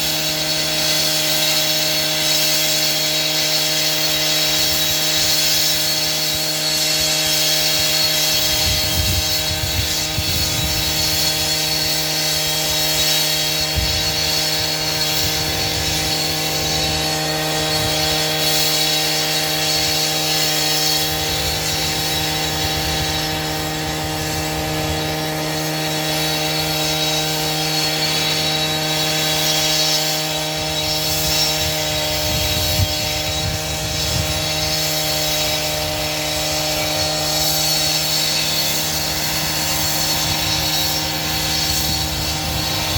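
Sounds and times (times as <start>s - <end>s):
power saw cutting: 0.0s - 42.9s.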